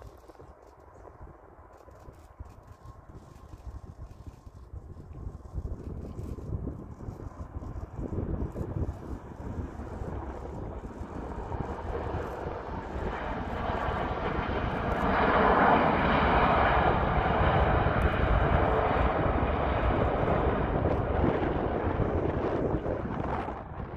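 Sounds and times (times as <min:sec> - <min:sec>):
wind rumbling on microphone: 0:00.0 - 0:23.9
jet airliner passing close: 0:00.5 - 0:23.9.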